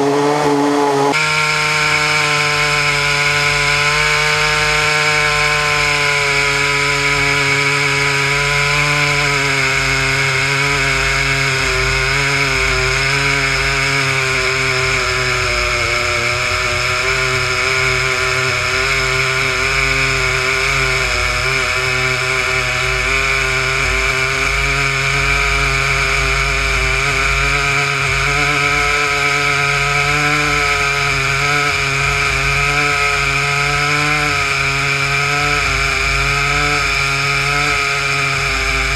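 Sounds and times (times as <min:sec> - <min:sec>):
chainsaws cutting log: 0:00.0 - 0:38.9.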